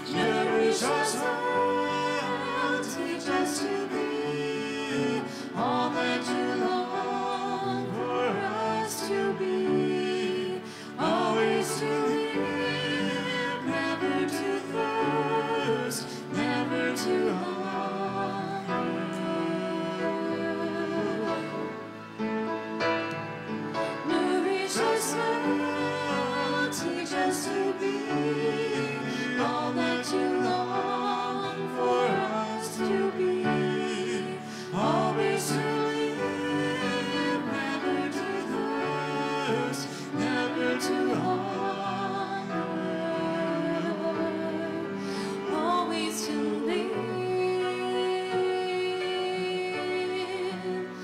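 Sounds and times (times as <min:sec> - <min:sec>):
person singing hymn with vibrato: 0:00.0 - 0:22.8, 0:23.5 - 0:51.0
piano: 0:00.0 - 0:51.0.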